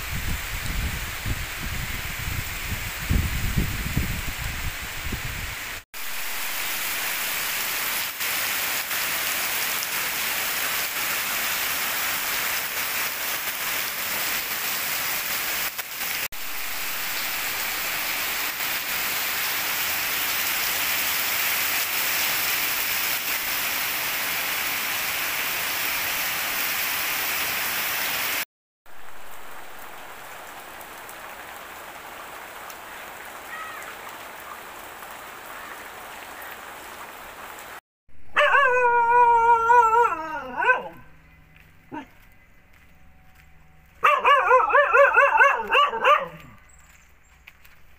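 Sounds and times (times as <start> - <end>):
steady rain falling: 0.0 - 37.8, 44.5 - 47.9.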